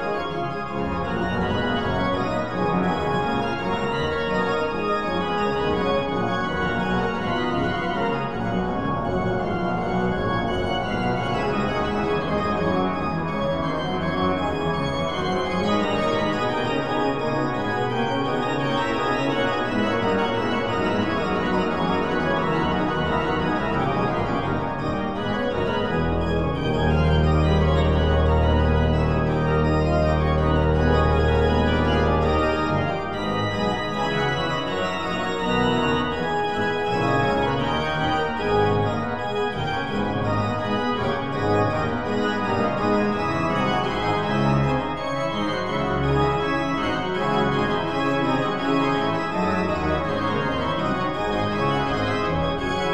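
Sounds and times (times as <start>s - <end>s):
organ chords: 0.0s - 52.9s.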